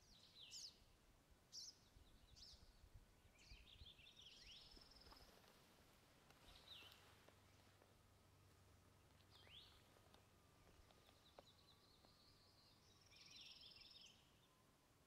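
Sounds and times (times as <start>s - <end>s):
faint songbird calls: 0.0s - 5.7s, 6.3s - 14.7s.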